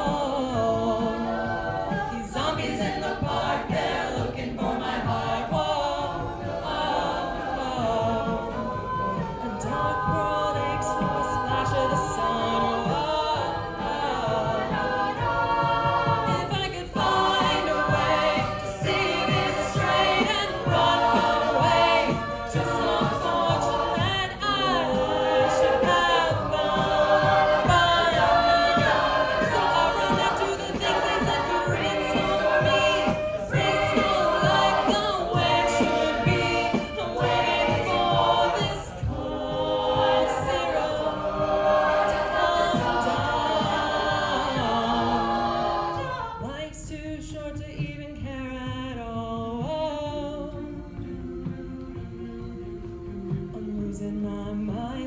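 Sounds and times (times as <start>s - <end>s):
steady beat: 0.0s - 46.6s
a cappella group singing: 0.0s - 55.0s.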